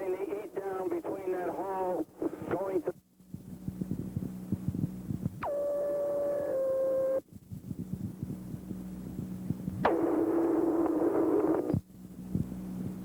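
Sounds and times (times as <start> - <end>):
radio static crackling: 0.0 - 13.0.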